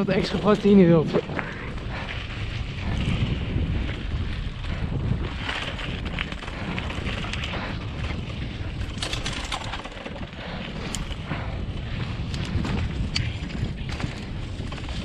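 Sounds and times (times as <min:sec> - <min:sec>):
bike clicks and rattles: 0:00.0 - 0:15.0
wind rumble on microphone: 0:00.0 - 0:15.0.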